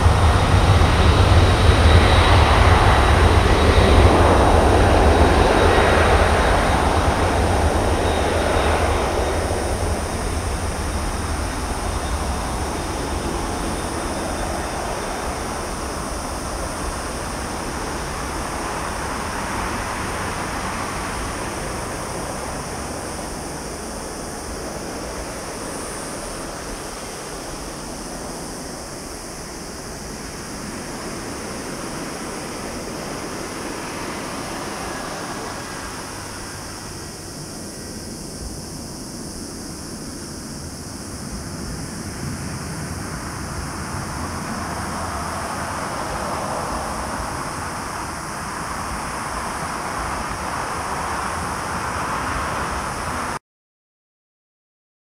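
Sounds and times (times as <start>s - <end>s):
jet engines at takeoff thrust: 0.0s - 53.4s.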